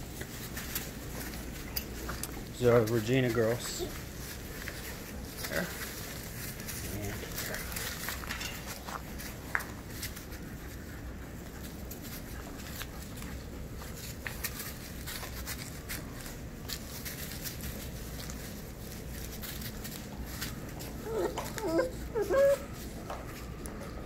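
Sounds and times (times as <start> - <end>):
paws scuffling in wood shavings: 0.0 - 24.0.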